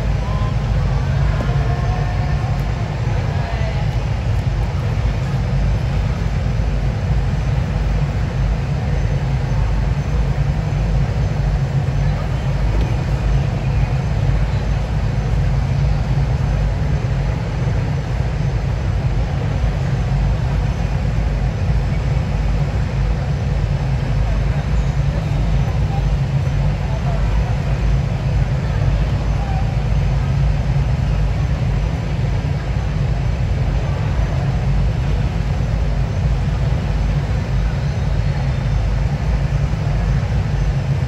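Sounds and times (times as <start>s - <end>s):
recorded waterfall rumble: 0.0s - 41.0s.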